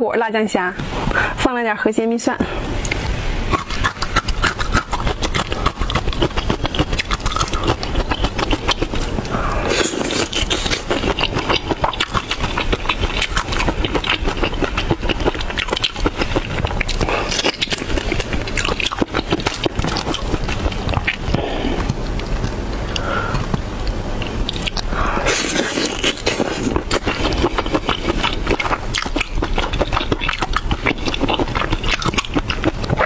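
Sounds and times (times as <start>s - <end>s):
chewing shrimp: 2.8s - 33.0s
crackling clicks and mouth sounds: 2.8s - 33.0s.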